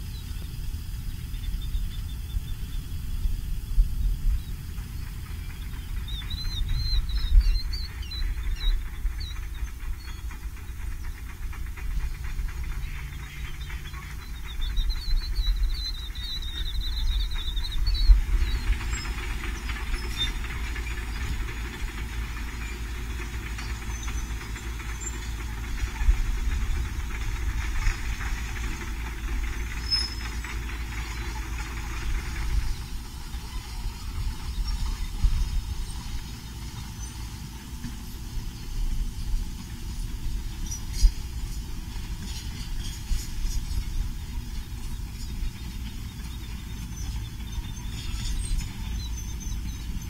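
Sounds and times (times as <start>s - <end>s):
steady rushing noise: 0.0s - 49.0s
wind buffeting microphone: 0.0s - 50.0s
birds chirping: 4.0s - 50.0s.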